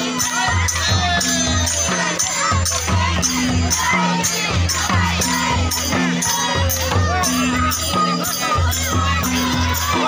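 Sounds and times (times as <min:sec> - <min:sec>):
crowd noise: 0:00.0 - 0:10.0
low drum beat: 0:00.0 - 0:10.0.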